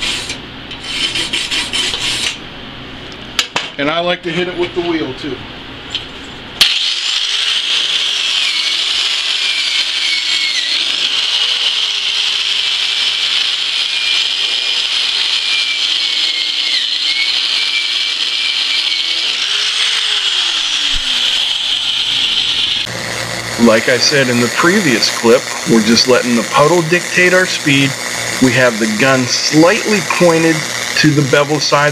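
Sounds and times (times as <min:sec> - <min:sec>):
angle grinder on metal: 0:00.0 - 0:02.4, 0:06.6 - 0:31.9.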